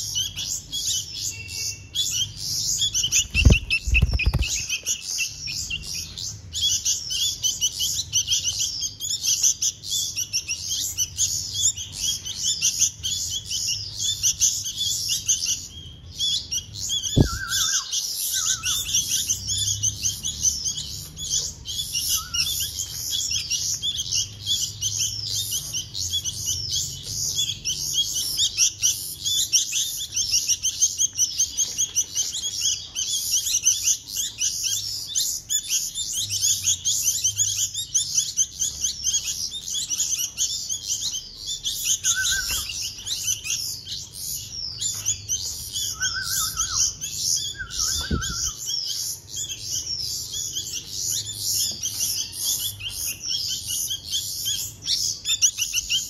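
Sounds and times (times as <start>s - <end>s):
baby birds begging chirps: 0.0s - 56.0s.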